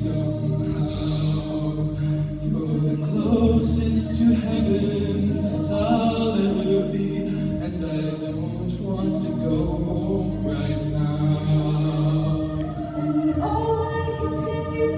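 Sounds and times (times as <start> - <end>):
a cappella group singing chords: 0.0 - 14.9.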